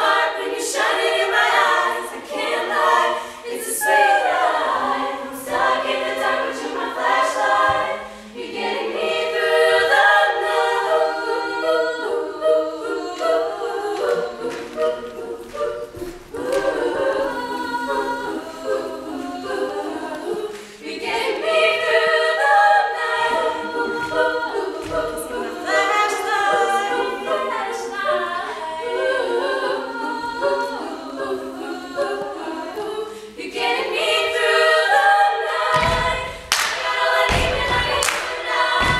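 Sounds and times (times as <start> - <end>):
girls singing a cappella: 0.0 - 38.9.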